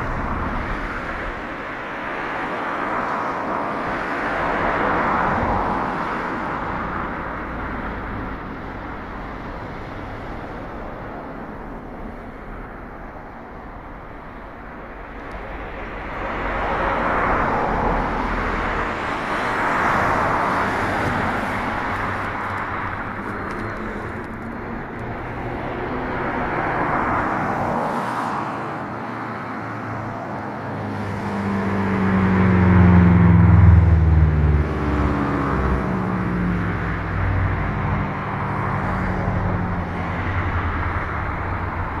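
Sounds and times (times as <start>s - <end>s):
cars passing: 0.0s - 42.0s
heavy vehicle engine passing: 4.0s - 42.0s.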